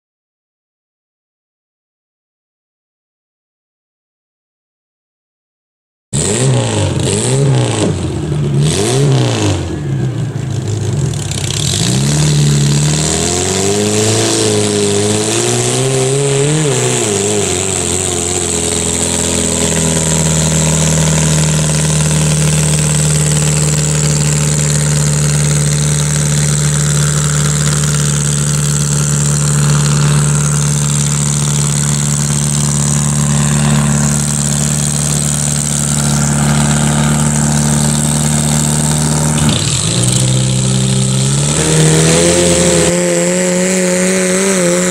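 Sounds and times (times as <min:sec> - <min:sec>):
tractor engine revving and idling: 0:06.2 - 0:44.9.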